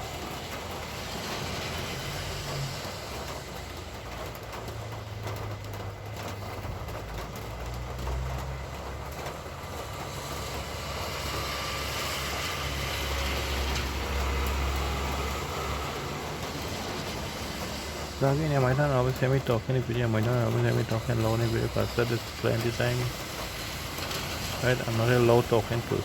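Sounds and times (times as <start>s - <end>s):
engine rumble of traffic: 0.0s - 26.0s
tyre hiss on wet road: 0.0s - 26.0s.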